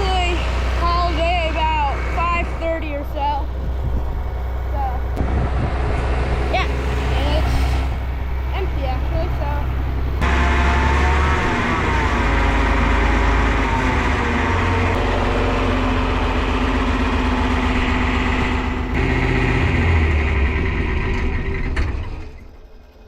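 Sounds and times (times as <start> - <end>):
heavy vehicle engine running: 0.0 - 23.0.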